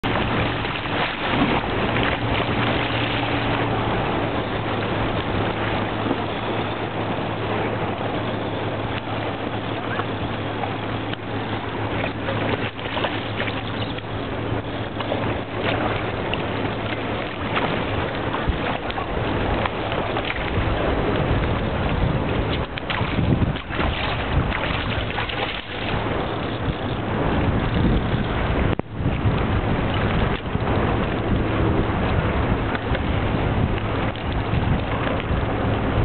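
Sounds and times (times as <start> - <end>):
low engine hum: 0.0 - 36.0
water washing against rocks: 0.0 - 36.0
wind on microphone: 0.0 - 36.0.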